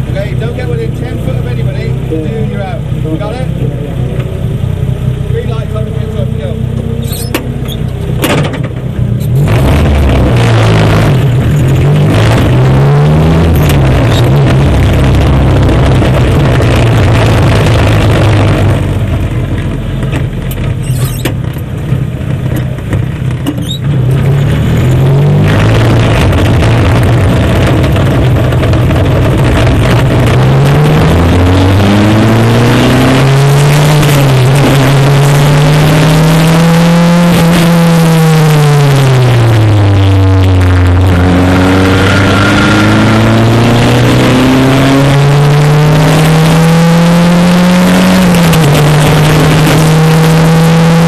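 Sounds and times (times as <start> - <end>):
racing car engine revving: 0.0 - 19.7, 23.3 - 51.0.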